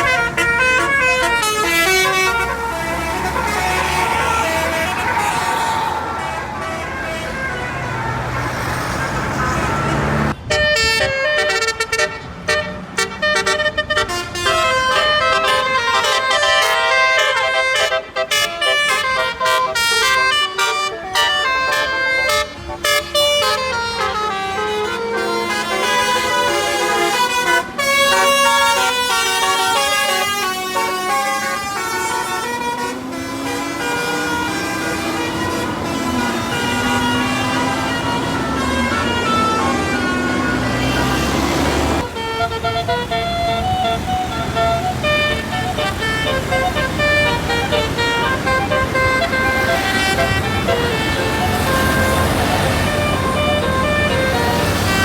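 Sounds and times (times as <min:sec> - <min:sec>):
bus engine running: 0:00.0 - 0:11.4, 0:12.1 - 0:55.0
multi-tone bus horn playing a tune: 0:00.0 - 0:55.0
road noise: 0:00.0 - 0:55.0.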